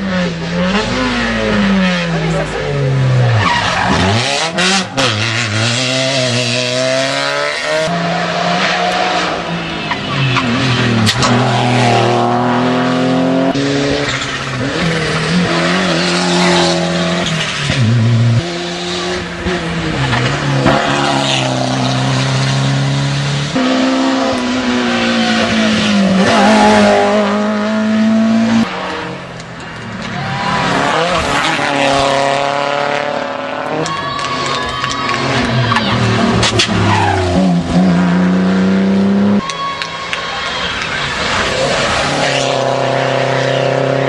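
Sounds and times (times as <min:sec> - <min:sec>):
rally car engine revving: 0:00.0 - 0:34.0, 0:34.8 - 0:39.4, 0:40.7 - 0:44.0.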